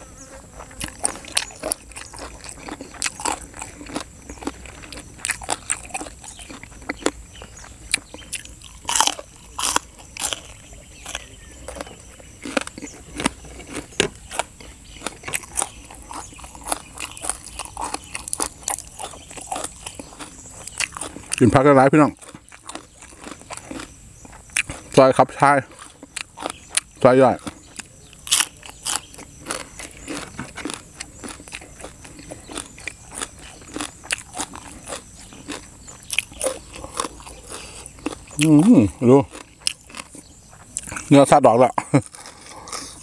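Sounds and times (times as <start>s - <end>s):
person chewing crunchy vegetables: 0.0s - 43.0s.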